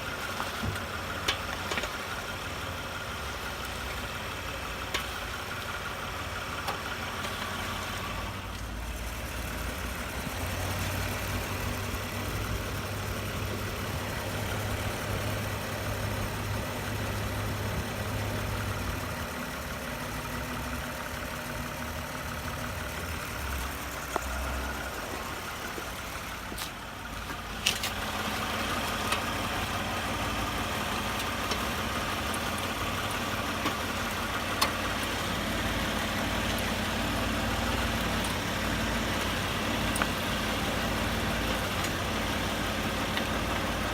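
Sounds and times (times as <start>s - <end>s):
car engine and road drone: 0.0s - 43.9s.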